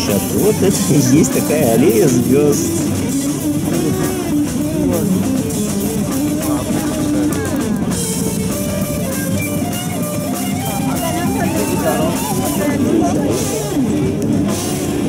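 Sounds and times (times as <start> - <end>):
rock music with drums and guitar: 0.0 - 15.0.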